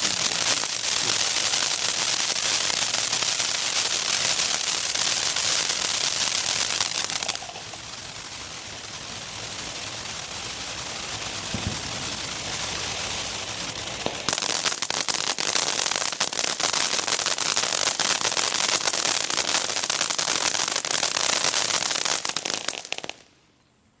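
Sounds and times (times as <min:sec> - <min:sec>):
firework fountain hissing: 0:00.0 - 0:23.3
dense firework crackling: 0:00.0 - 0:23.5.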